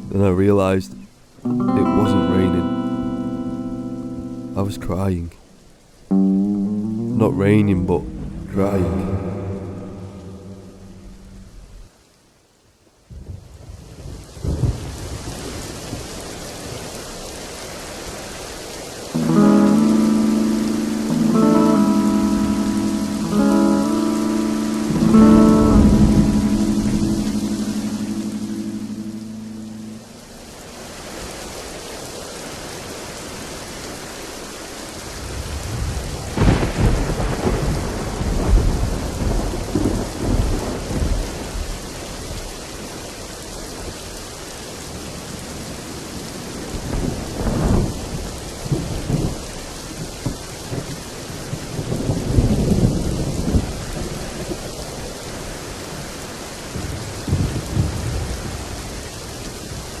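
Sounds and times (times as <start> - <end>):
heavy rain: 0.0 - 60.0.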